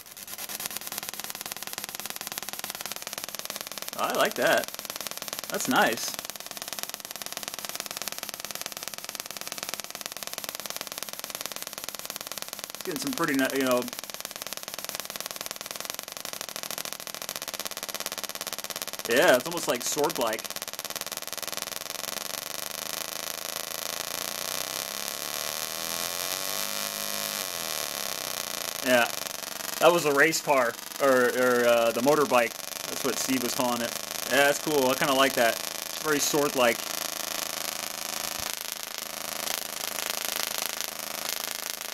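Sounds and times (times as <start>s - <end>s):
tesla coil sparking buzz: 0.0s - 41.9s.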